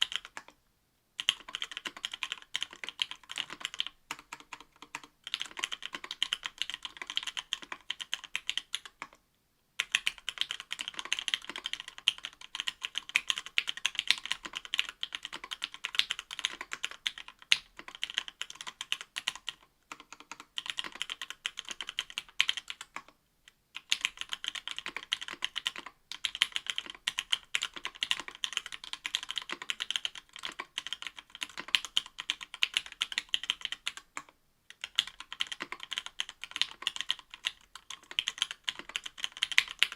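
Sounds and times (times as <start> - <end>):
mechanical keyboard typing: 0.0 - 0.6, 1.2 - 9.2, 9.8 - 23.1, 23.8 - 39.9.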